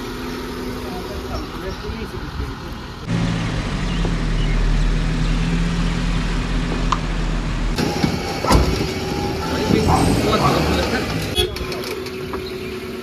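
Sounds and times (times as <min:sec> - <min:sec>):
car engine running: 0:00.0 - 0:11.4
road noise: 0:00.0 - 0:13.0.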